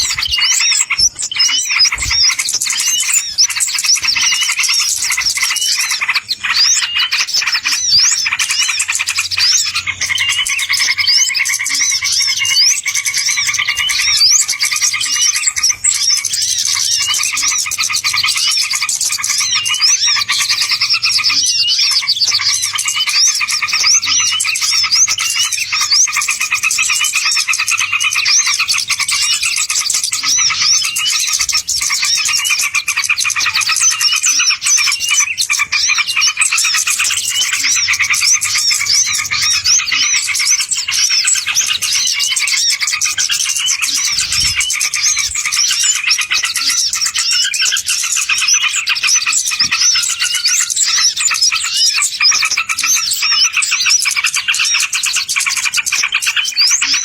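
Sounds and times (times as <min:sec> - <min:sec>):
chorus of small birds chirping: 0:00.0 - 0:57.0.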